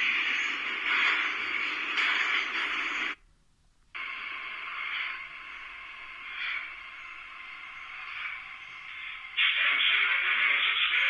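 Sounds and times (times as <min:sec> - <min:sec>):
train noise through phone speaker: 0:00.0 - 0:03.2, 0:04.0 - 0:11.0.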